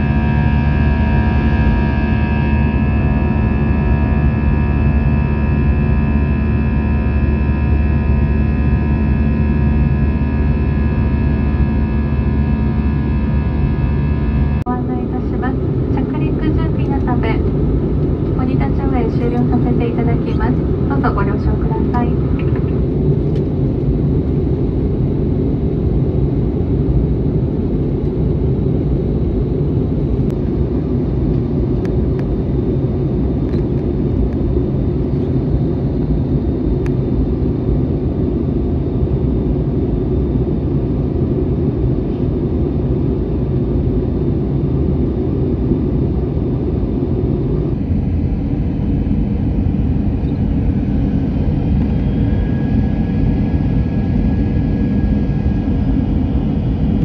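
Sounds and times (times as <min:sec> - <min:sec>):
airliner cabin engine rumble: 0:00.0 - 0:57.0
faint higher hum: 0:00.0 - 0:57.0.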